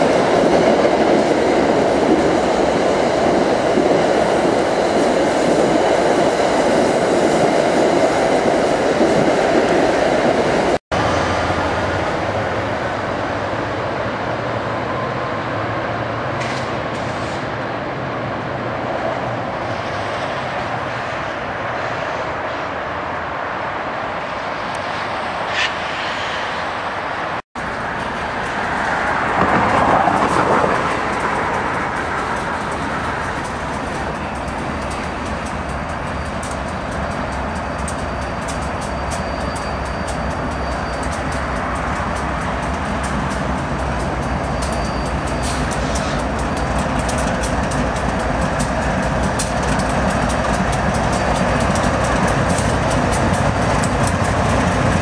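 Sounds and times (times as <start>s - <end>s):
diesel locomotive engines rumbling: 0.0s - 55.0s
train wheels on rails: 0.0s - 55.0s.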